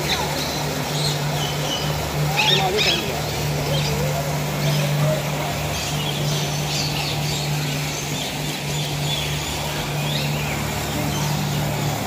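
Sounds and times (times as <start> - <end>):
birds chirping: 0.0 - 12.0
fountain jets splashing: 0.0 - 12.0.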